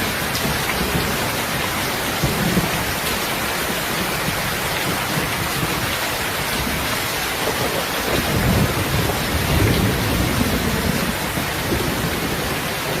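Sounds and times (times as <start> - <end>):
heavy rain falling: 0.0 - 13.0
low thunder rumbling: 0.0 - 13.0.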